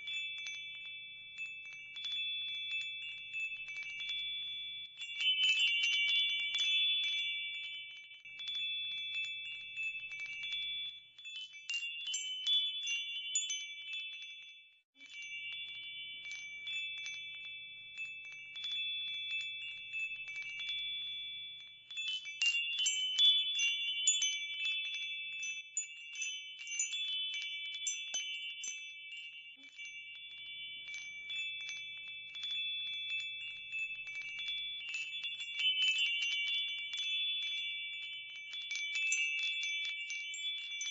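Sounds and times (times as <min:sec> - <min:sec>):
tinkling metal chimes: 0:00.0 - 0:40.9.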